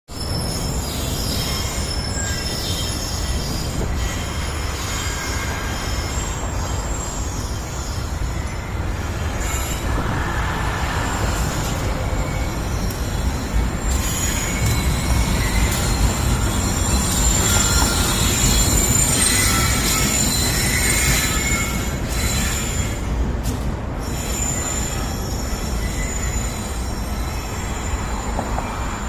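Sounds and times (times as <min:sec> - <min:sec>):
freight train rumbling on rails: 0:00.1 - 0:29.0
high wheel squeal: 0:00.1 - 0:29.0.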